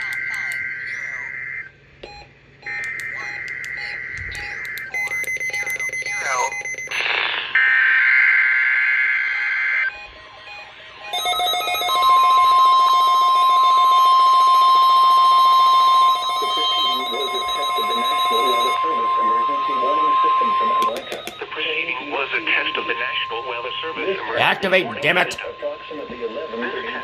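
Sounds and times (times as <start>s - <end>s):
steady warning alarm tone: 0.0s - 7.0s, 7.6s - 27.0s.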